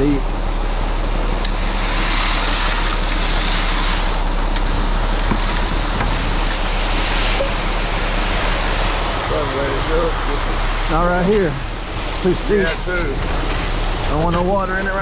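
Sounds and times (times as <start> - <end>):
concrete mixer truck running: 0.0 - 15.0.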